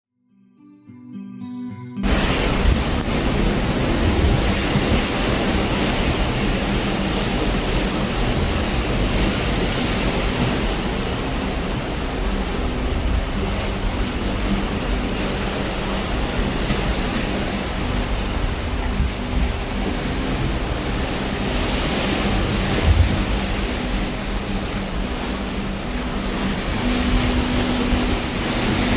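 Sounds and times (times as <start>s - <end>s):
low rumble: 2.0s - 28.9s
ocean waves rushing: 2.0s - 28.9s
wind: 2.0s - 28.9s.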